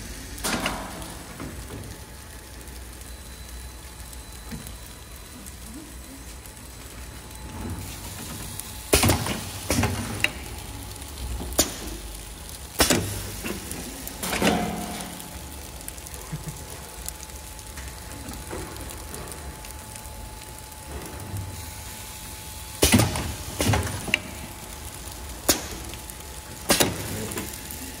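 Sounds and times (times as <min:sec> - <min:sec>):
machine humming with faint whine: 0:00.0 - 0:28.0.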